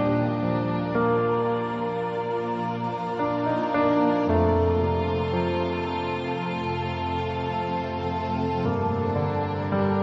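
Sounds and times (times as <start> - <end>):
slow sad music: 0.0 - 10.0.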